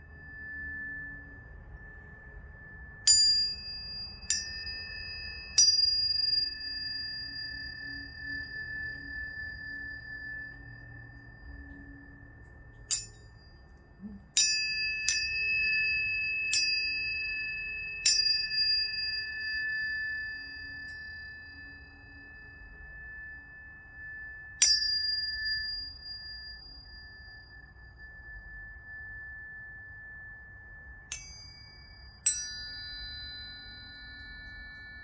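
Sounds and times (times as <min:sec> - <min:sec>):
tuning forks ringing: 0:00.0 - 0:35.0.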